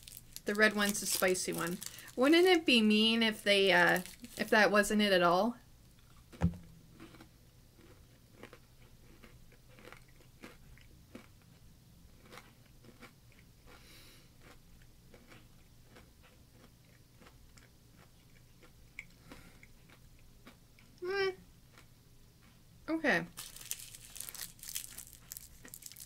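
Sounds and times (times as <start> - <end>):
crunchy snack being chewed: 0.0 - 2.6, 3.8 - 4.4, 5.9 - 6.4, 7.0 - 21.0, 21.7 - 22.6, 23.4 - 26.0
low steady hum: 0.0 - 26.0.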